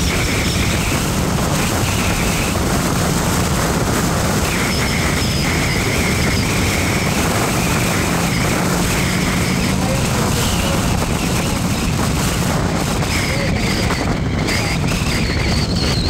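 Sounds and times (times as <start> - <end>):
car road and wind noise: 0.0 - 16.0
faint whine: 0.0 - 16.0.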